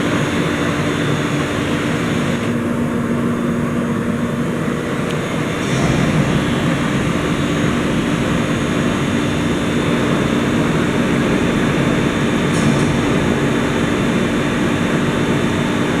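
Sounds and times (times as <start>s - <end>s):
boring machine humming and whirring: 0.0s - 16.0s.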